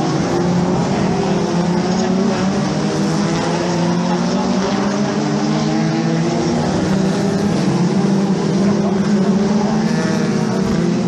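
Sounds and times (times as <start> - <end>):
race car engines running: 0.0 - 11.0.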